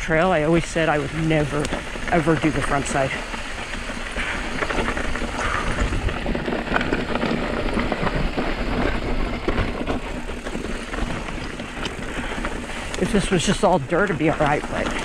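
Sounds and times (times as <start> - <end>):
bike tyres crunching over gravel: 0.0 - 15.0
low rumble: 0.0 - 15.0
small clicks and rattles: 0.2 - 15.0.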